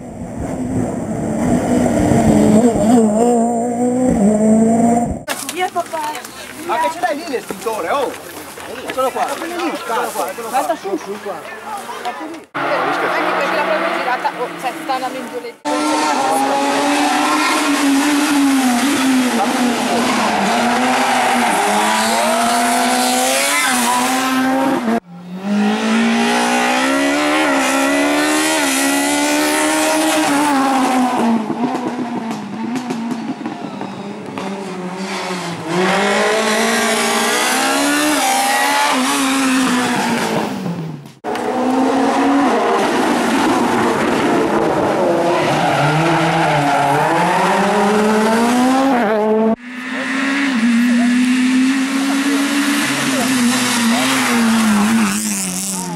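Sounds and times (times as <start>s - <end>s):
rally car engines revving: 0.0s - 5.3s, 12.3s - 55.9s.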